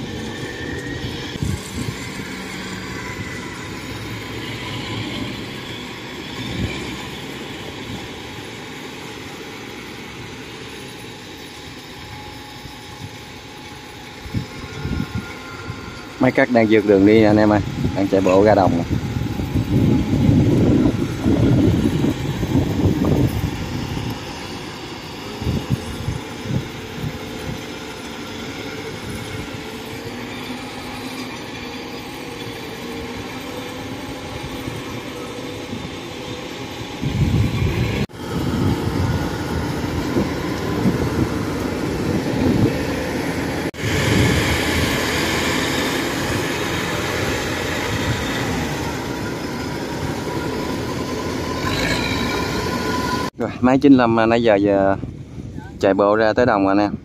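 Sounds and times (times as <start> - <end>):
combine harvester engine running: 0.0 - 53.3.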